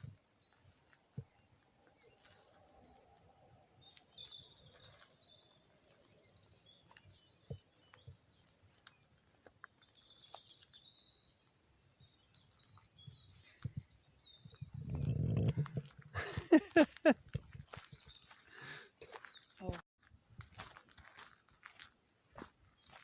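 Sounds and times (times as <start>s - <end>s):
small birds chirping: 0.0s - 19.8s, 21.4s - 23.0s.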